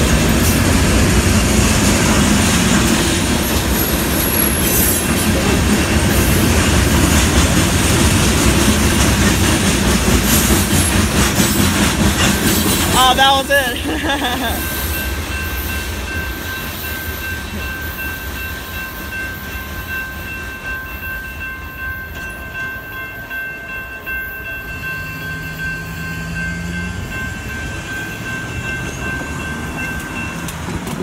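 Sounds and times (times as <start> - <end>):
crossing warning bell ringing: 0.0 - 31.0
freight train rumbling: 0.0 - 31.0.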